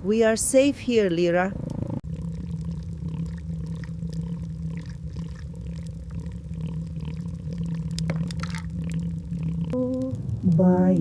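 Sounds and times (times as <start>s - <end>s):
lion rumbling: 1.6s - 10.5s.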